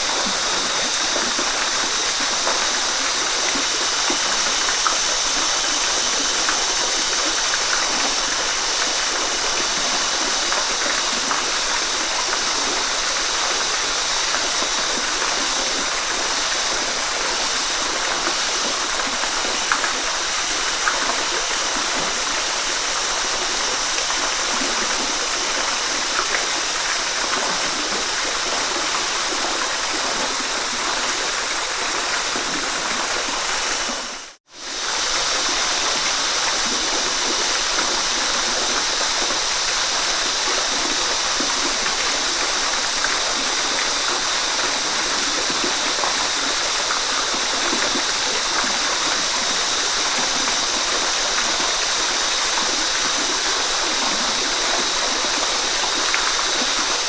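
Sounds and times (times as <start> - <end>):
rush of falling water: 0.0 - 57.0.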